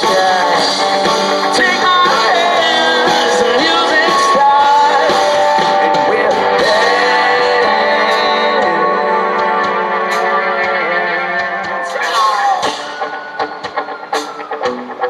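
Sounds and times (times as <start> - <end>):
person singing: 0.0 - 14.9
country-rock band playing: 0.0 - 15.0.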